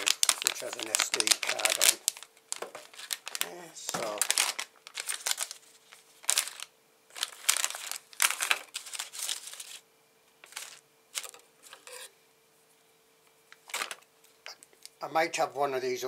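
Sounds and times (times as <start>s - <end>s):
plastic bags crinkling: 0.0s - 9.8s, 10.4s - 12.1s, 13.5s - 14.9s.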